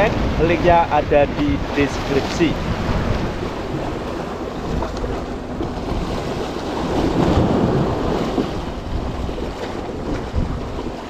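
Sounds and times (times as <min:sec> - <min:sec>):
waves breaking against rocks: 0:00.0 - 0:11.0
wind buffeting microphone: 0:00.0 - 0:11.0.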